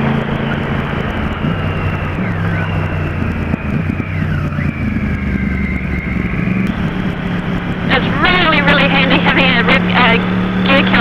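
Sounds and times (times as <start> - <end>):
high whine: 0.0 - 11.0
motorcycle engine running: 0.0 - 11.0.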